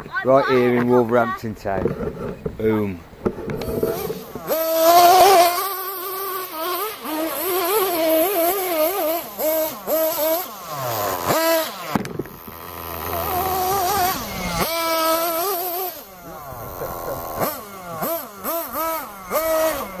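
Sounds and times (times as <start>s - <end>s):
toy car motor revving: 3.4s - 20.0s.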